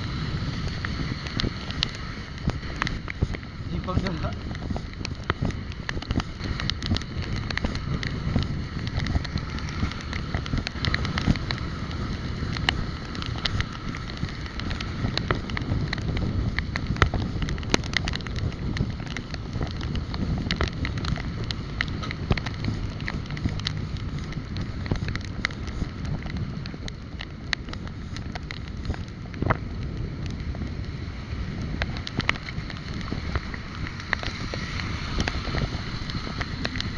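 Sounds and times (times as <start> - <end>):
bicycle clicks and rattles: 0.0 - 36.9
wind buffeting microphone: 0.0 - 36.9.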